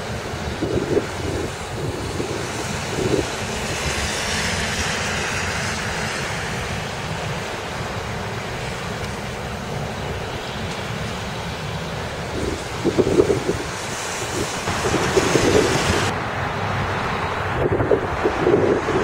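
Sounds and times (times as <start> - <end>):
tyres hissing through water: 0.0 - 16.1
low rumble of engines: 0.0 - 19.0
wind buffeting microphone: 0.0 - 19.0.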